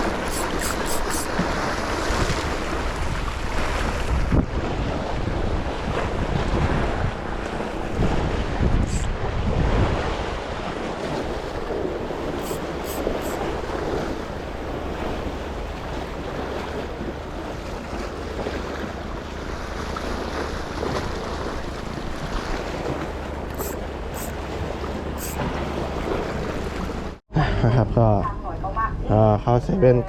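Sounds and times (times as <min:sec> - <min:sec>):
sea water rushing: 0:00.0 - 0:27.2
wind buffeting microphone: 0:01.3 - 0:27.2.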